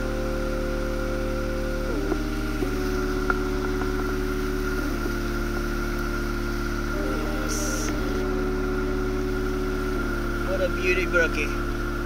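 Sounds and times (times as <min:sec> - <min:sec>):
steady low hum: 0:00.0 - 0:12.0
sustained synth chords: 0:00.0 - 0:12.0.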